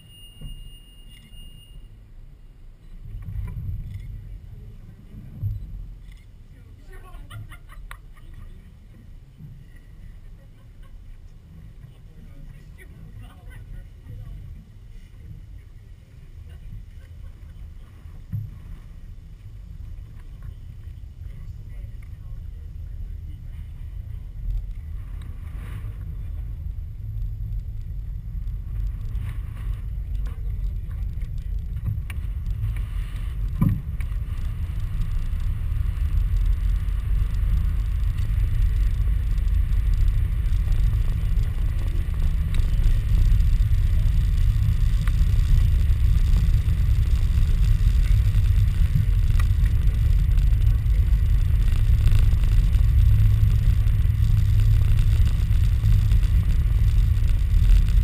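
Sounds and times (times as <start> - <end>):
cable car cabin rumble: 2.8 - 58.0.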